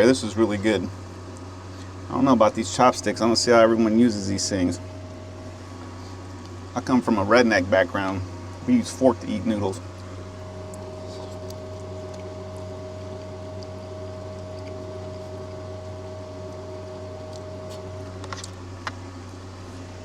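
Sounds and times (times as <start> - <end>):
faint steady whine: 0.0 - 20.0
low mechanical hum: 0.0 - 20.0.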